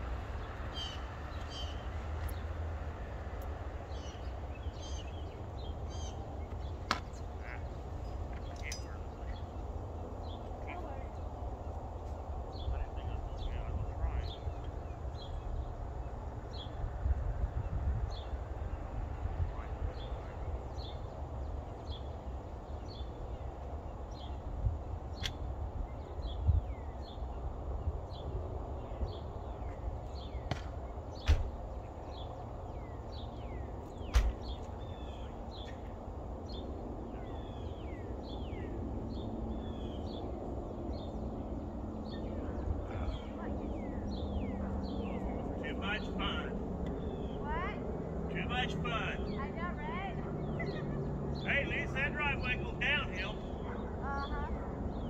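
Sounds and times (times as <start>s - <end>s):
constant low rumble: 0.0s - 55.0s
small birds chirping: 0.0s - 55.0s.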